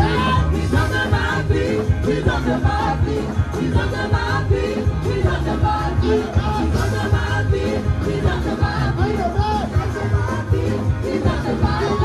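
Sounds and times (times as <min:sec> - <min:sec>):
live gospel band playing: 0:00.0 - 0:12.0
voices singing: 0:00.0 - 0:12.0.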